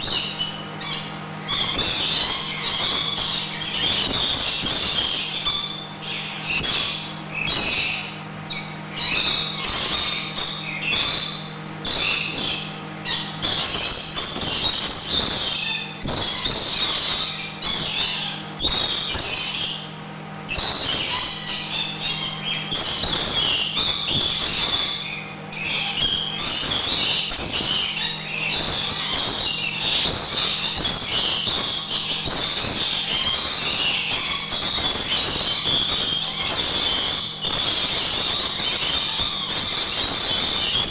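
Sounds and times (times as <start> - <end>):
lorikeets calling shrilly: 0.0 - 40.9
steady low hum: 0.0 - 40.9.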